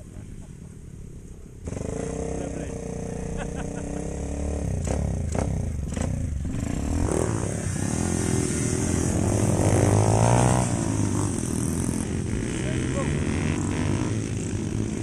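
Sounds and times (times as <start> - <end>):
mopeds revving and pulling away: 0.0 - 15.0.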